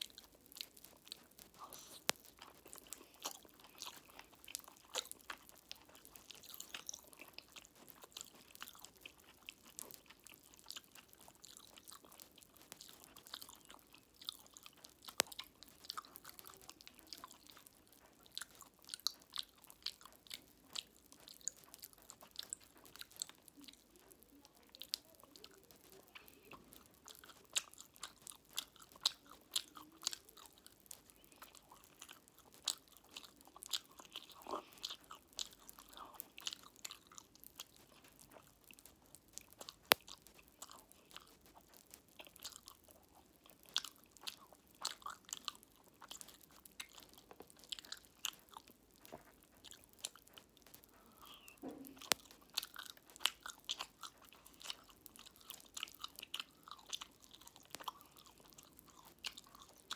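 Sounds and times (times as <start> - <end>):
popping candy crackling: 0.0 - 59.9
wet chewing: 0.0 - 59.9.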